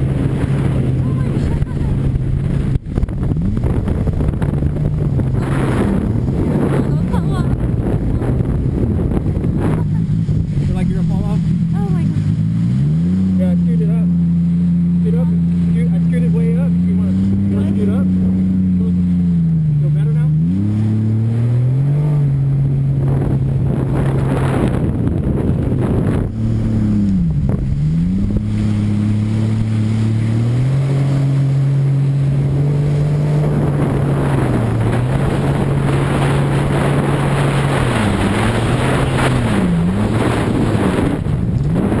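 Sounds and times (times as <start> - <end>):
jet ski engine: 0.0 - 42.0
rushing wind and water: 0.0 - 42.0.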